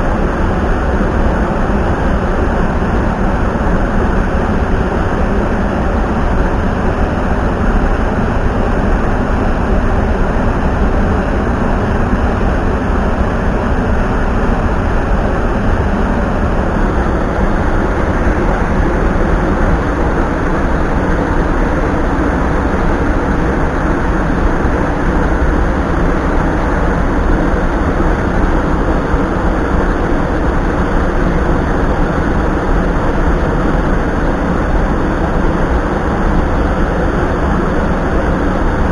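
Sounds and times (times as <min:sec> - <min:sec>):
stream rushing over rocks: 0:02.8 - 0:36.2.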